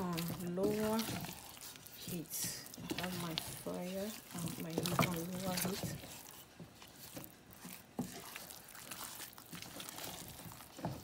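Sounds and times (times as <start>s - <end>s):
spatula scraping thick mash: 0.0s - 11.0s.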